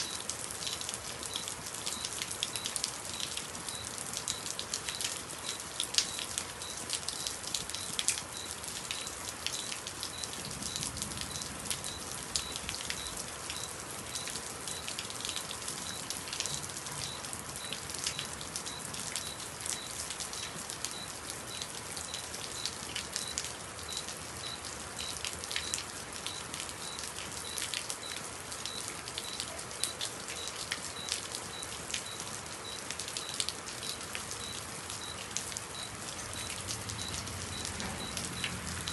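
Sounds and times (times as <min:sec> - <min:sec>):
raindrops hitting hard surface: 0:00.0 - 0:38.9.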